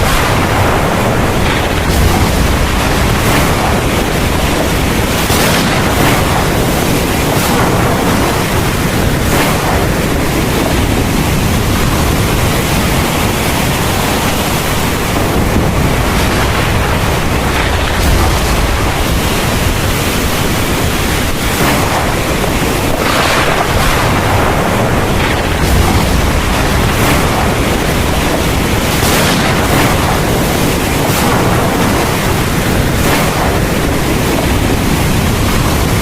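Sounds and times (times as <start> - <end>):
heavy rain pouring: 0.0 - 36.0
thunder rumbling: 0.0 - 36.0.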